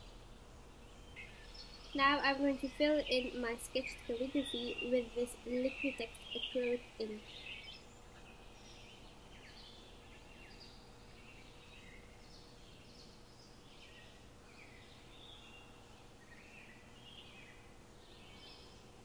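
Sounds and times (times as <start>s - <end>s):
faint birds chirping: 0.0s - 19.0s
low background hum: 0.0s - 19.0s.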